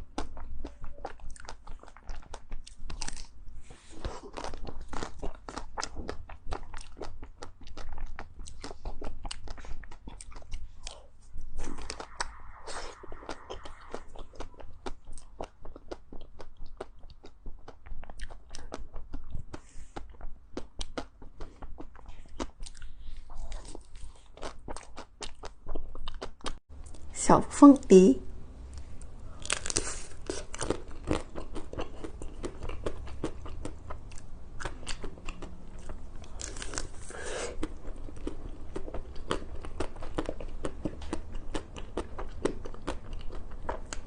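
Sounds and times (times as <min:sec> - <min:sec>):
chewing crunchy ice cream: 0:00.0 - 0:27.1, 0:28.7 - 0:44.0.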